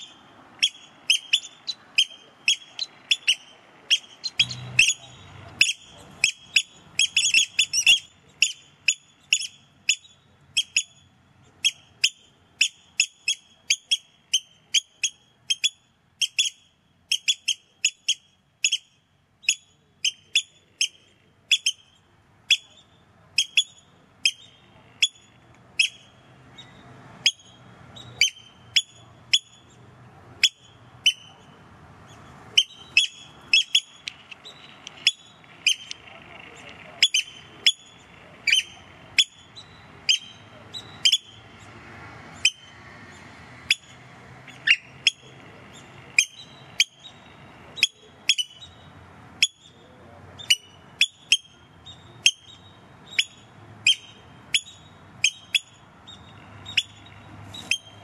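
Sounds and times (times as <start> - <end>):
birds piping calls: 0.0 - 58.0.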